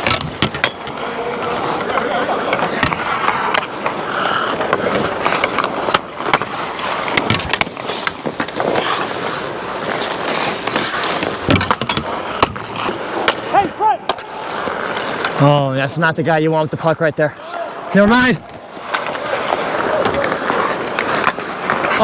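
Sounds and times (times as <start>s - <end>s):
hockey sticks and puck clacking: 0.0s - 22.0s
skates scraping on ice: 0.0s - 22.0s.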